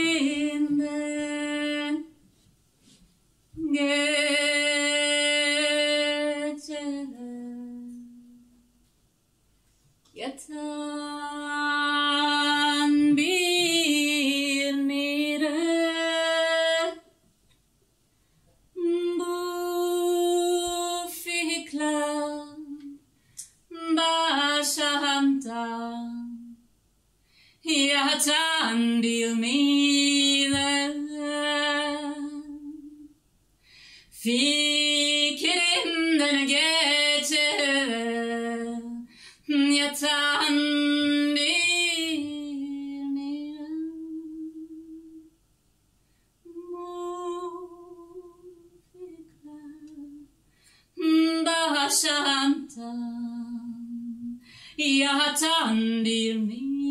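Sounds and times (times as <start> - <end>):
woman singing unaccompanied: 0.0 - 2.2, 3.5 - 8.7, 10.1 - 17.1, 18.8 - 23.1, 23.7 - 26.6, 27.6 - 33.2, 34.1 - 45.4, 46.4 - 50.4, 51.0 - 56.9.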